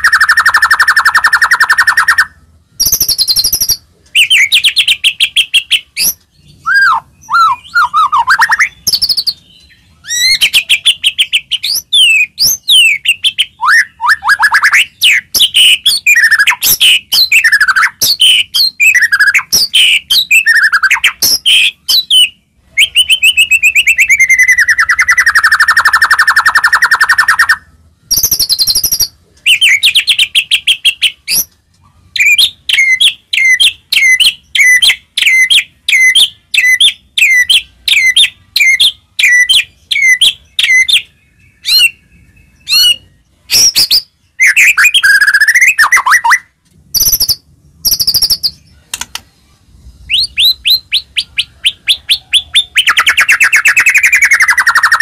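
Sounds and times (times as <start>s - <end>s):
bird song with trills and whistles: 0.0s - 49.2s, 50.0s - 55.0s.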